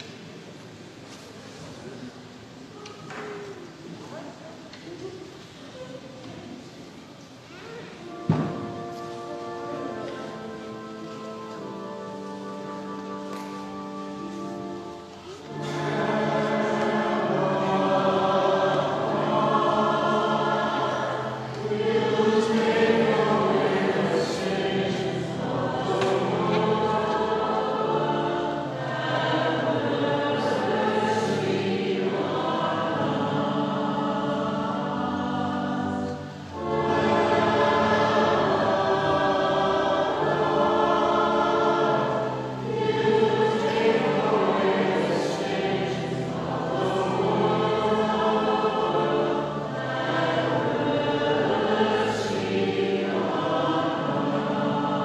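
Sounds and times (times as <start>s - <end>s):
choir singing a sacred piece: 0.0s - 55.0s
sustained accompaniment: 7.6s - 55.0s.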